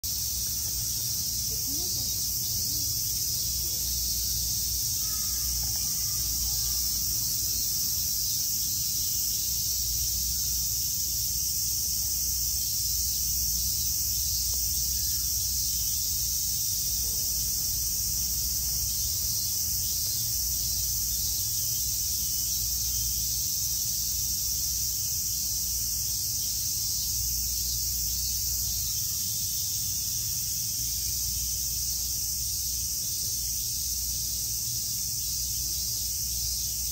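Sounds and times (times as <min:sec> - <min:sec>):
cicadas chorus: 0:00.0 - 0:36.9.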